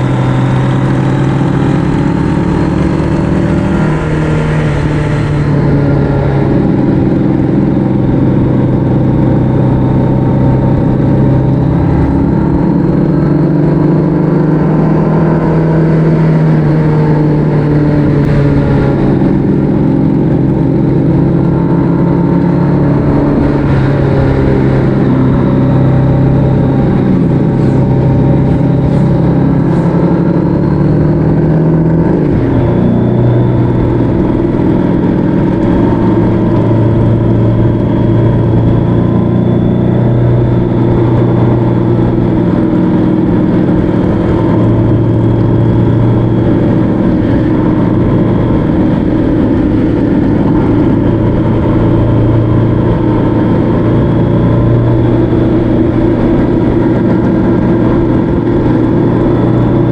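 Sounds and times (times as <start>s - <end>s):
motorcycle engine running: 0.0s - 59.9s
road noise: 0.0s - 59.9s
wind noise: 0.0s - 59.9s.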